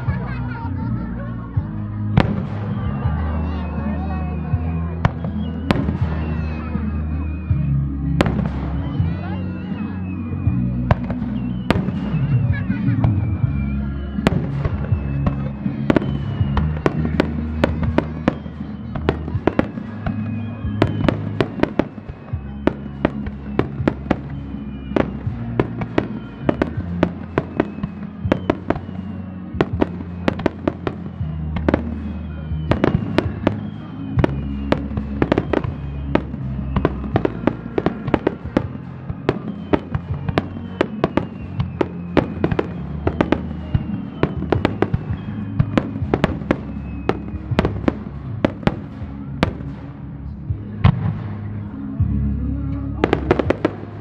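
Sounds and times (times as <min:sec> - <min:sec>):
fireworks bursts and bangs: 0:00.0 - 0:52.0, 0:52.9 - 0:54.0
music with held low notes: 0:00.0 - 0:54.0.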